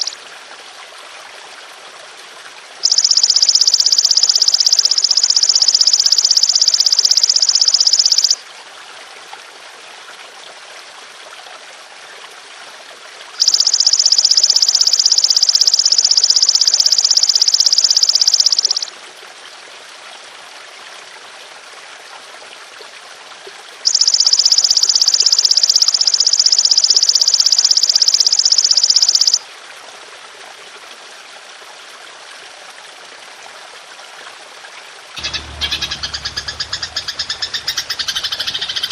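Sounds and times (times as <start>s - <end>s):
trickling water: 0.0s - 38.9s.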